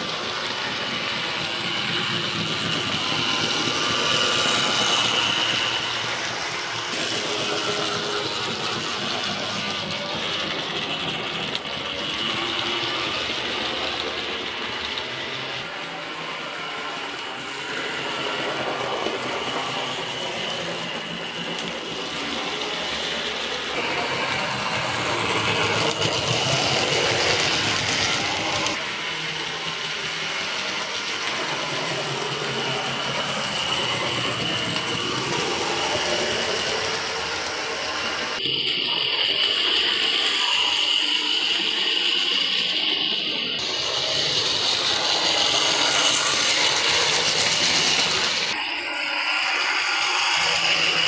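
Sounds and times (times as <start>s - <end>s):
model train motor whine: 0.0s - 51.0s
wheels rattling along rails: 0.0s - 51.0s.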